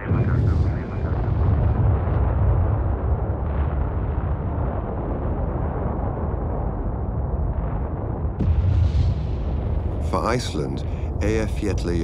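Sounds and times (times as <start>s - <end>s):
low rumble of volcanic eruption: 0.0s - 12.0s.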